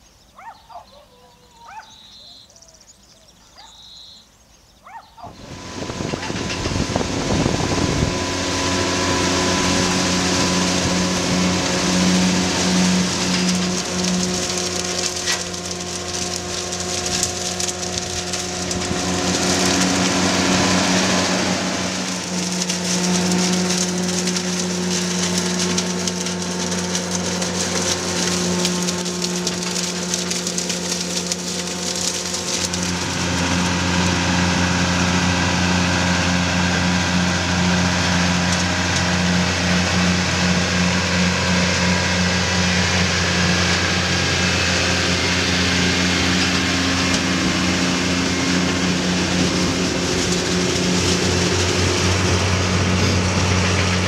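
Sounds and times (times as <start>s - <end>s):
rattling of shaken branches: 5.2s - 54.0s
harvester engine drone: 5.3s - 54.0s.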